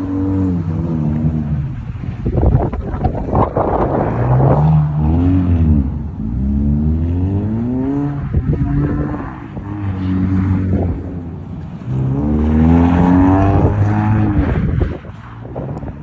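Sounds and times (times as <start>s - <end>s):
car engine revving: 0.0s - 16.0s
rough crackling noise: 0.0s - 16.0s.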